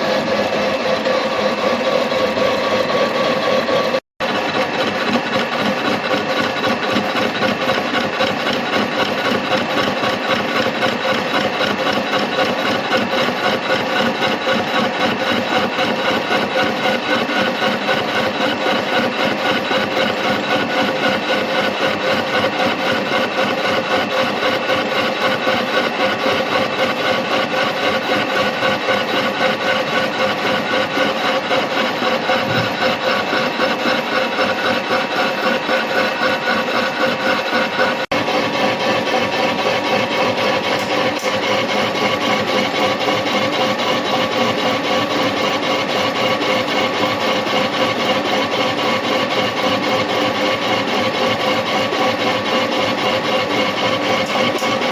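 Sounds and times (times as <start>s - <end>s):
milling machine cutting metal: 0.0s - 54.9s.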